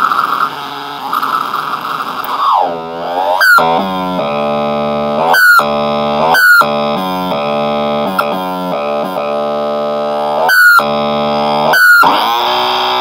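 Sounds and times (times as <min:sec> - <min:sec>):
synthesizer harsh buzzing: 0:00.0 - 0:13.0
high rising squeals: 0:00.9 - 0:08.4, 0:09.1 - 0:13.0.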